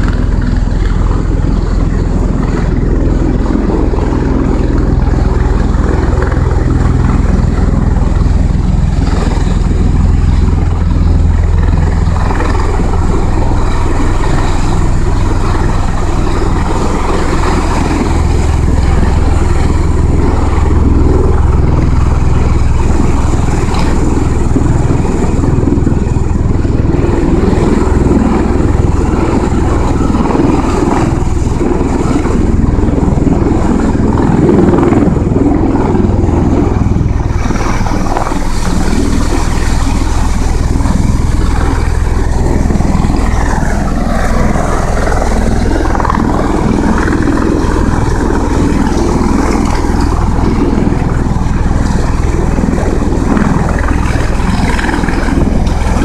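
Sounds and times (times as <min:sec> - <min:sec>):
tiltrotor aircraft hovering: 0:00.0 - 0:56.0.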